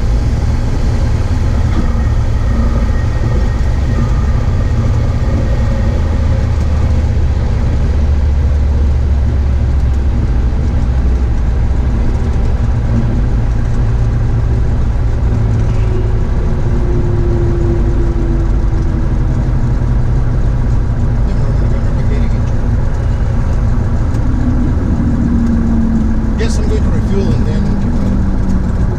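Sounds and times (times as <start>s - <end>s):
airplane piston engine droning: 0.0s - 28.9s.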